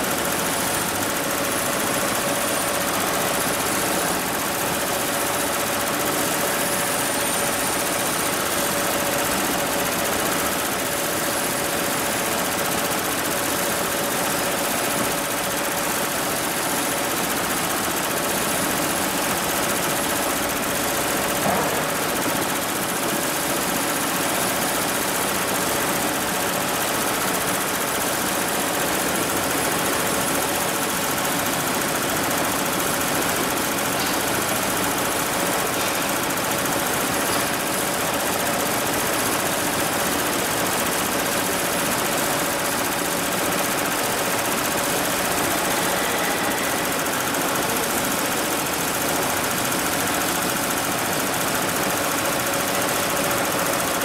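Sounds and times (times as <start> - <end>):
embroidery machine stitching: 0.1 - 54.0.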